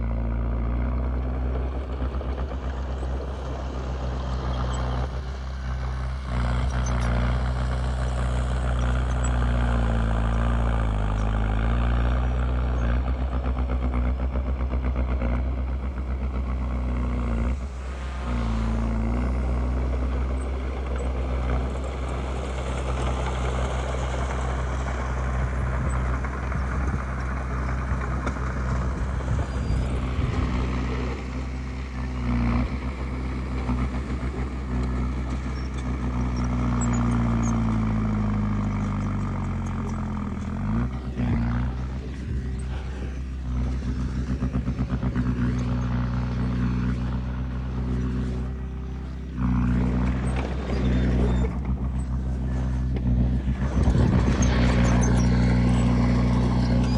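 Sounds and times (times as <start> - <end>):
heavy diesel engine under load: 0.0 - 56.9.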